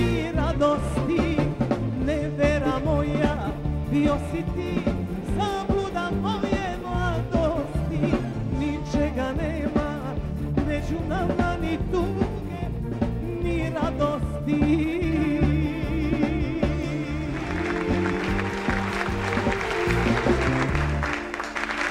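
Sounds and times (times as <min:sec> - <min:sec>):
live pop-folk band music: 0:00.0 - 0:21.9.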